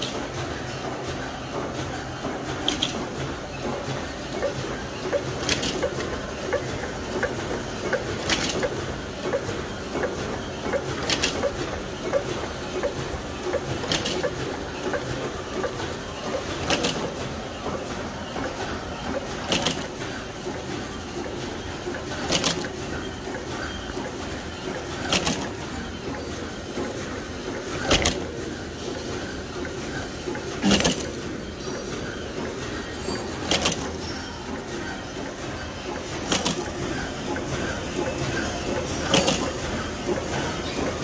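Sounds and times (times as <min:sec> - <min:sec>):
printing machine rapid ticking: 0:00.0 - 0:41.0.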